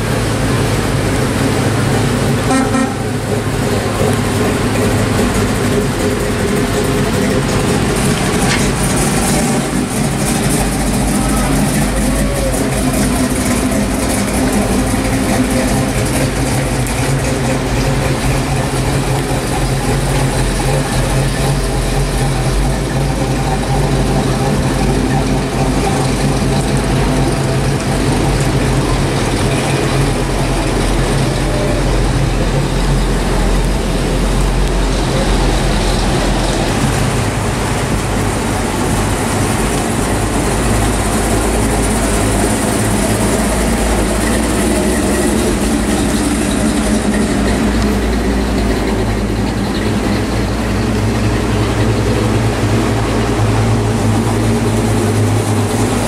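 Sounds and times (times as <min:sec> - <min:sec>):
car engines rumbling past: 0:00.0 - 0:56.0.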